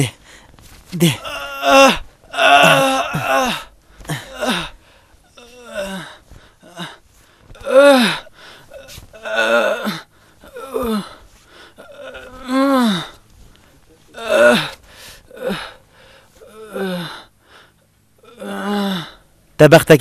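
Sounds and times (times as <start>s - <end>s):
man crying out in pain: 1.0s - 13.2s, 13.8s - 15.8s, 16.4s - 17.4s, 18.2s - 19.3s.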